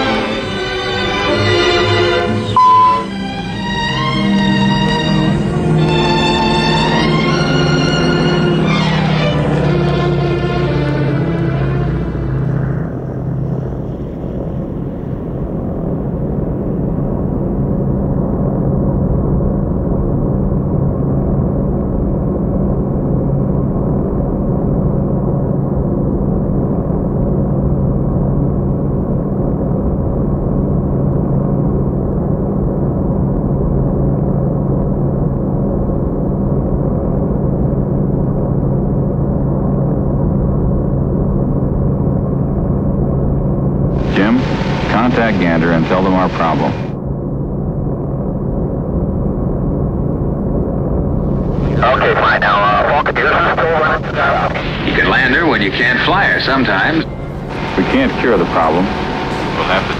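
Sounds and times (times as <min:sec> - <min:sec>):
airplane engines droning: 0:00.0 - 0:59.9
low hum tones: 0:00.0 - 0:59.9.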